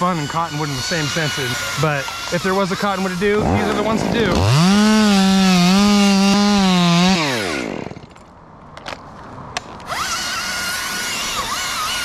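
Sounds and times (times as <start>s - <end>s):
chainsaw at full throttle: 0.0s - 8.2s, 9.9s - 12.0s.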